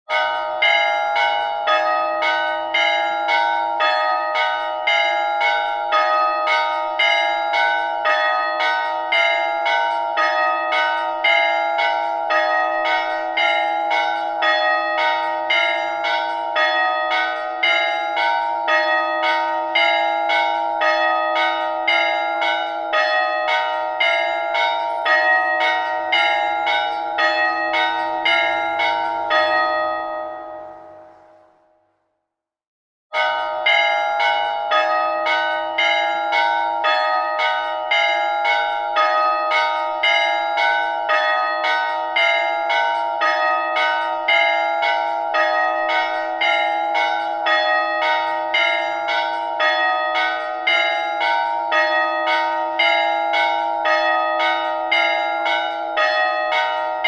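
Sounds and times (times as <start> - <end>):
church bells pealing: 0.1 - 31.6, 33.1 - 57.0.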